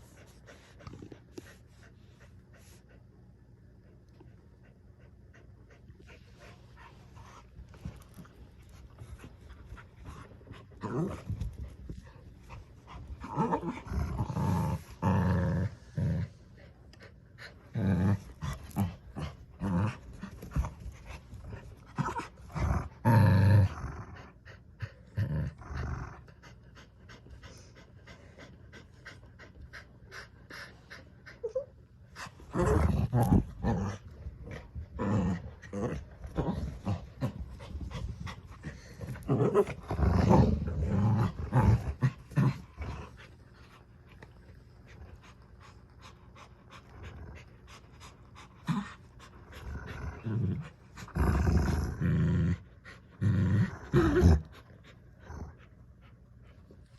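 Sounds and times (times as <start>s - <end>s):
dogs growling: 6.0s - 31.6s, 32.2s - 56.1s.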